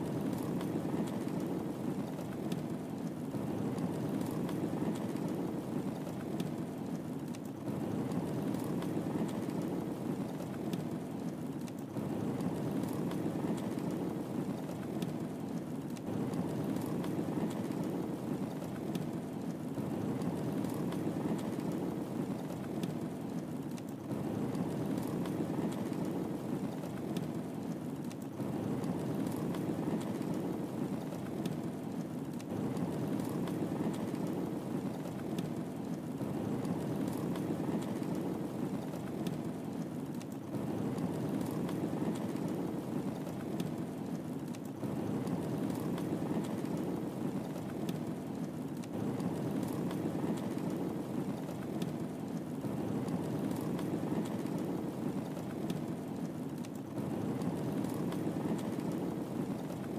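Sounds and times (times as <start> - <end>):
faint fire crackles: 0.0 - 59.9
wood fire rumbling: 0.0 - 59.9.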